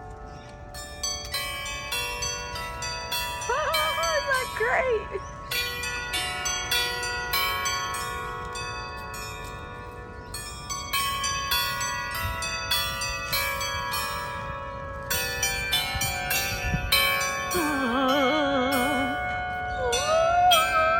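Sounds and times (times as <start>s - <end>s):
bells ringing: 0.0s - 20.9s.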